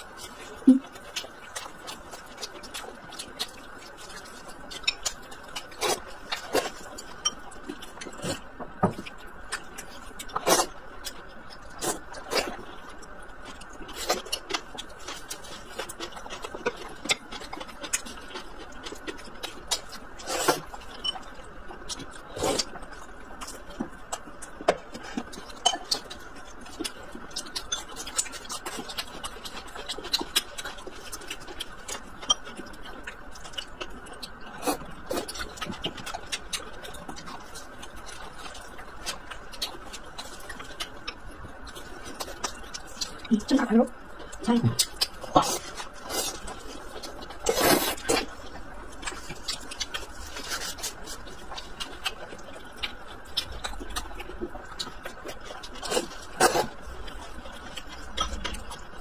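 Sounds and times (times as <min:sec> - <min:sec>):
chewing and mouth sounds: 0:00.0 - 0:59.0.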